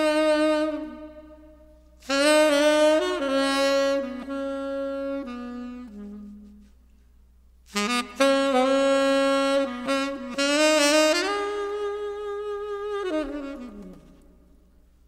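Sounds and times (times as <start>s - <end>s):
slow saxophone melody: 0.0s - 14.7s.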